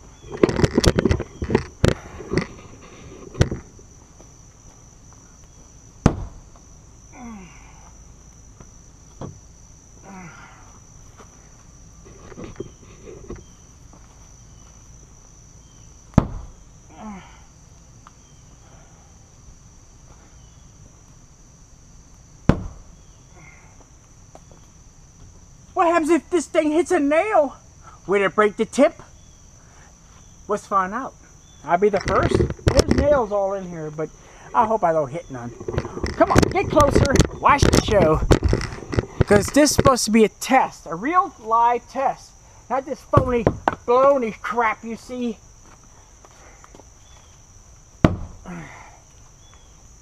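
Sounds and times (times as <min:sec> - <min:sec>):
insect drone: 0:00.0 - 0:50.0.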